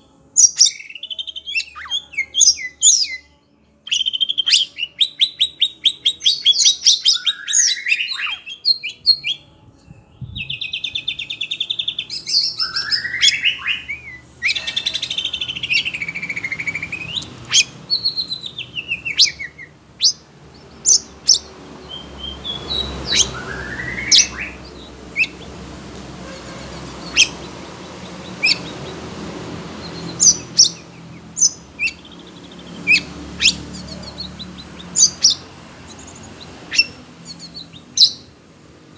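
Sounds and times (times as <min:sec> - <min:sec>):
songbird singing trills and whistles: 0:00.0 - 0:38.4
bird sharp calls: 0:03.9 - 0:09.4, 0:10.5 - 0:38.4.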